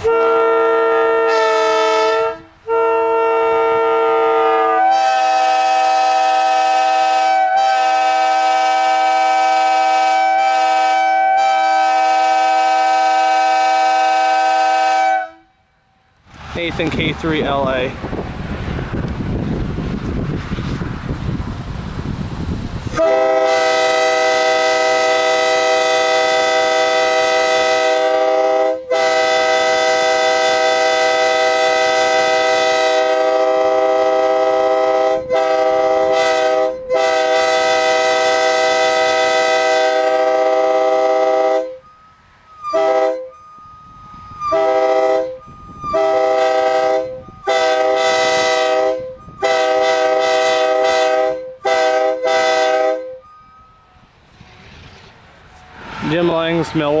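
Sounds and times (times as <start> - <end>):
locomotive air horn blasts: 0.0 - 15.8, 22.9 - 42.0, 42.6 - 54.1.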